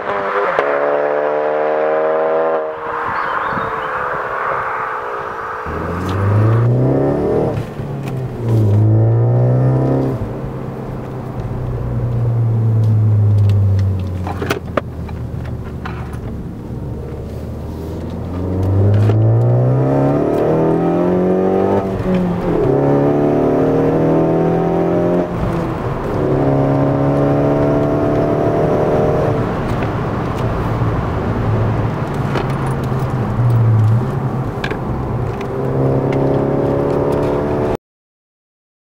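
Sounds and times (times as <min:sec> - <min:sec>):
car engine and exhaust drone: 0:00.0 - 0:37.8.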